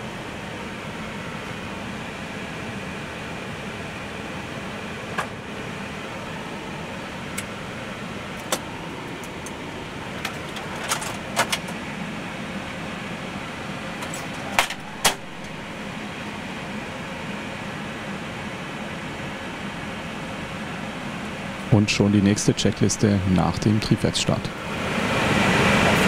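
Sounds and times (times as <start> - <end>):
aircraft engines idling: 0.0 - 26.0.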